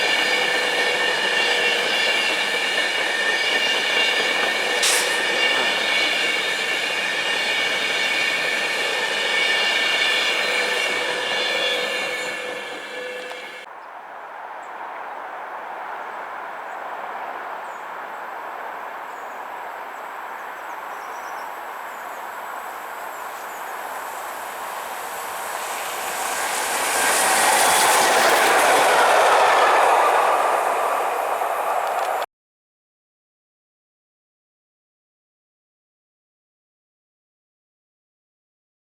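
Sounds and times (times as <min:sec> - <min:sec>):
train running past: 0:00.0 - 0:32.3.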